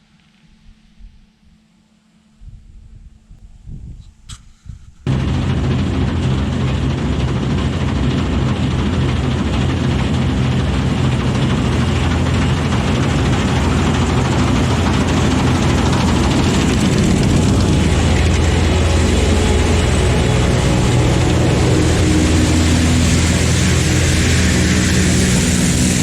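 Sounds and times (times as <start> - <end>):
combine harvester running: 5.1 - 26.0.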